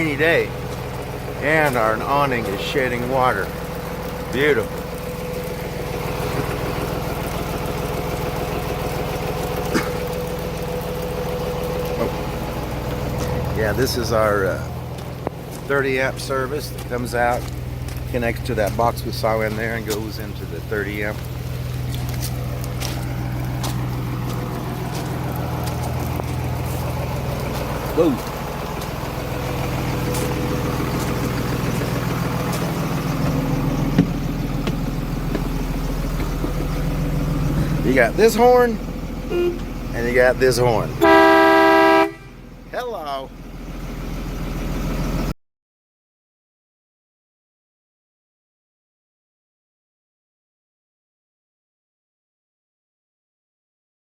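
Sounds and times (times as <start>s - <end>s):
diesel engine idling: 0.0s - 45.4s.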